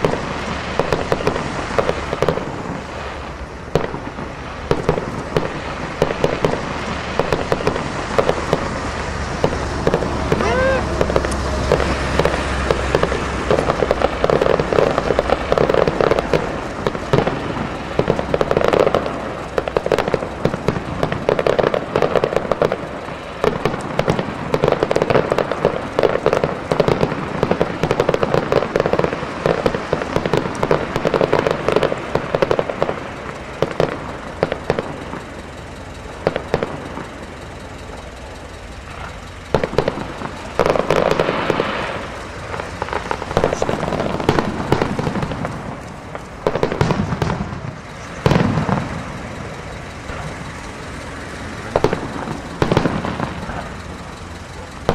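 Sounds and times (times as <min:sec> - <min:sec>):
fireworks bursting with bangs: 0:00.0 - 0:54.9.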